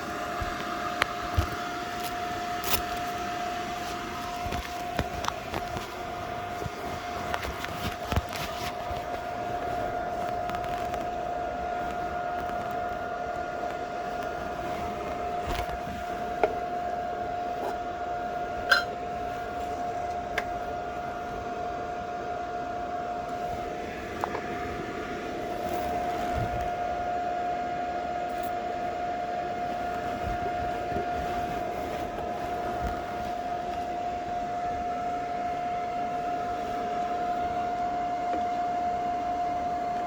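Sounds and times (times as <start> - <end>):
high whine: 0.0 - 40.0.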